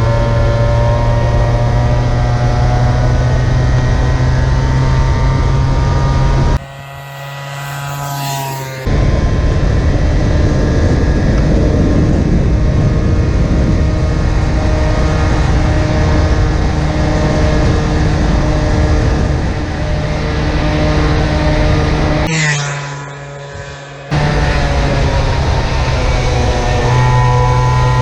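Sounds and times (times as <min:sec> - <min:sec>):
scooter engine at high speed: 0:00.0 - 0:28.0.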